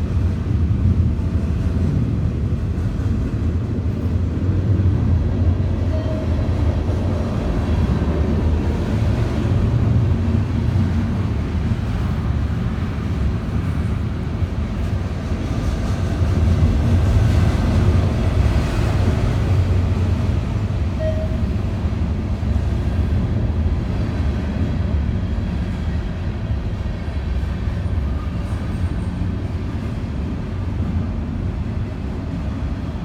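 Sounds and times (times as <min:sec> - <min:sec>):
freight train cars rumbling: 0:00.0 - 0:33.0.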